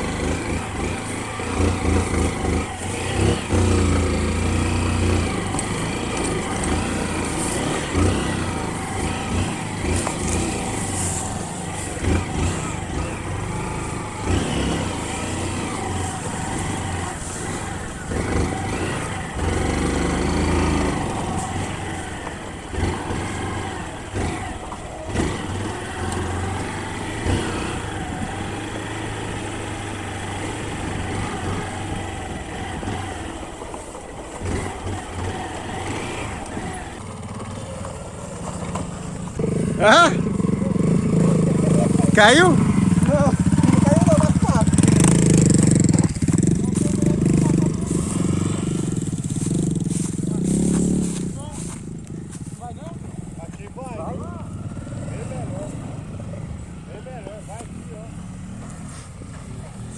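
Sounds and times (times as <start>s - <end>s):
motorcycle engine running: 0.0s - 59.9s
rough noisy background: 0.0s - 59.9s.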